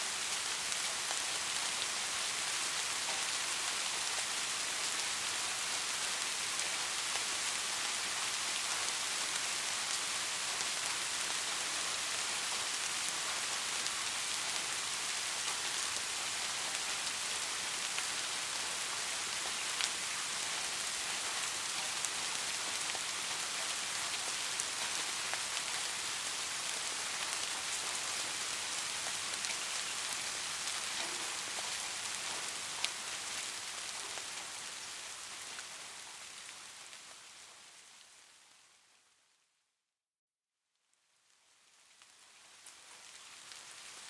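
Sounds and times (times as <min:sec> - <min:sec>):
steady rain hiss: 0:00.0 - 0:39.5, 0:40.8 - 0:44.0
raindrops ticking on a surface: 0:05.1 - 0:38.6, 0:40.8 - 0:44.0.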